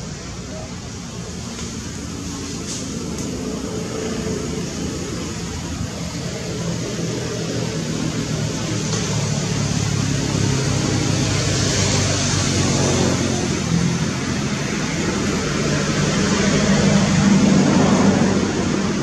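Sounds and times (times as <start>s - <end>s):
road noise: 0.0s - 19.0s
vehicle engine humming: 0.0s - 19.0s.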